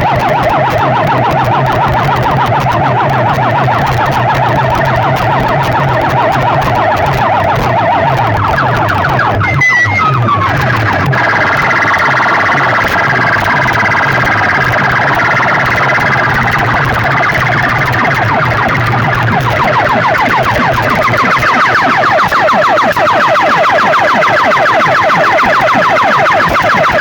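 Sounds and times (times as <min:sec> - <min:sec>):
repeating bass pulse: 0:00.0 - 0:22.0
warbling siren-like effect: 0:00.0 - 0:27.0.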